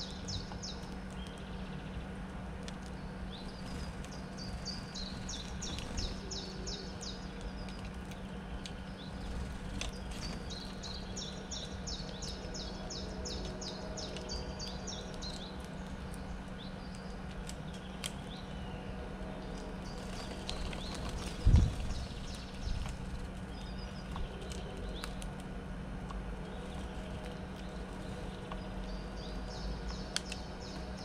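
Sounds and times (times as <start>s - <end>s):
songbird singing: 0.0s - 31.0s
steady low hum: 0.0s - 31.0s.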